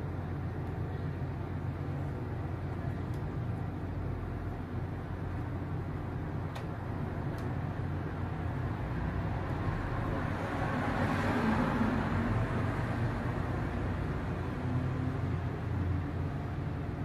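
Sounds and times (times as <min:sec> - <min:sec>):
faint hum: 0:00.0 - 0:17.0
low rumble and hiss: 0:00.0 - 0:17.0.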